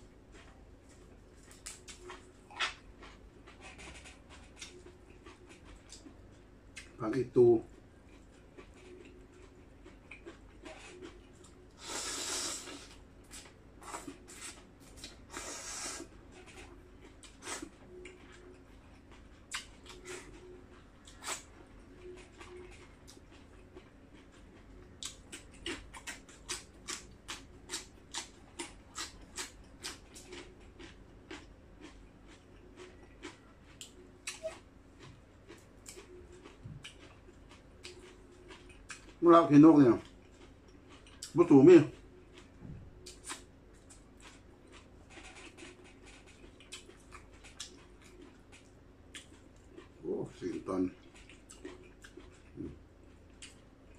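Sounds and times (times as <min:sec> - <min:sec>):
person chewing crisp greens: 0:00.0 - 0:53.9.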